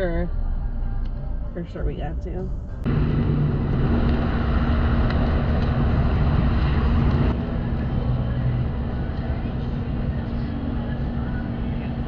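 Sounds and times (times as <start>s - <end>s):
van engine and road noise: 0.0s - 12.0s.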